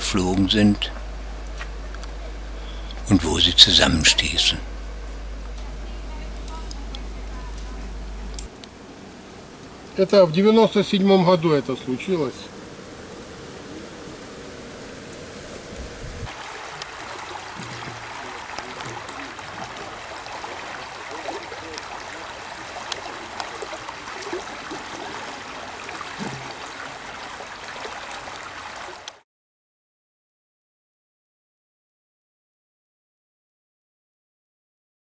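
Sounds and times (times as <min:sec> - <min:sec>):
running water rushing: 0:00.0 - 0:29.2.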